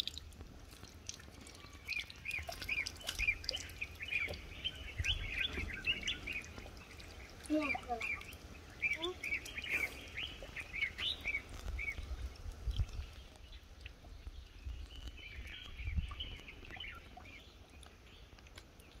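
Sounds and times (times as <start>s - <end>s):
birds chirping: 1.0s - 19.0s.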